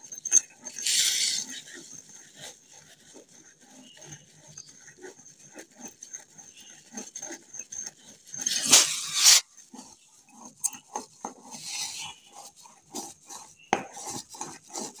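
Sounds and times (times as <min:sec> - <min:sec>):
spatula scraping metal pan: 0:00.1 - 0:02.7, 0:04.6 - 0:15.0.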